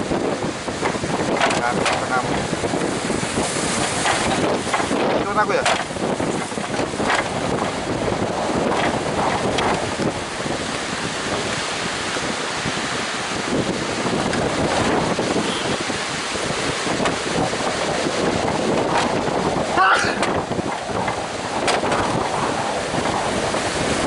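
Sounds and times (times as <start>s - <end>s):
heavy surf rushing: 0.0s - 24.0s
wind buffeting microphone: 0.0s - 24.0s.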